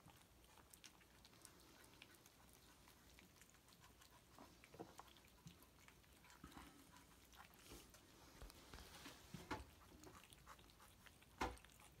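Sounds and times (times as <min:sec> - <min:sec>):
kittens chewing and lapping: 0:00.0 - 0:12.0.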